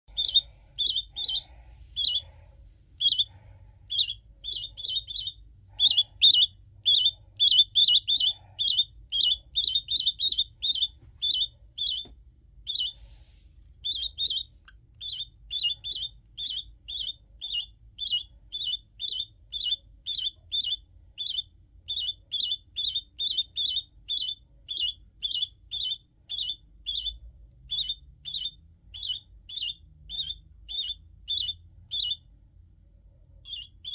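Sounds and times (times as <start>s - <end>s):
parrot chick chirping: 0.0s - 2.4s, 3.0s - 13.1s, 13.8s - 32.3s, 33.4s - 33.9s.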